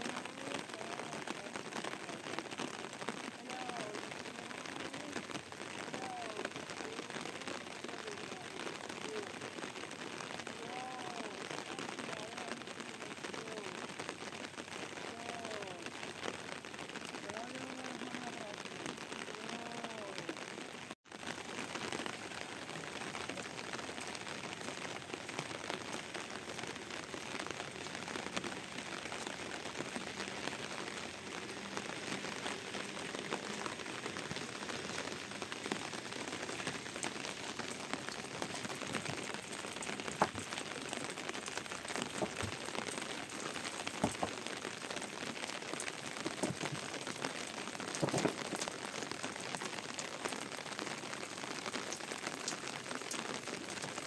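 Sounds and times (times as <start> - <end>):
sharp raindrop taps: 0.0 - 54.0
steady rain falling: 0.0 - 54.0.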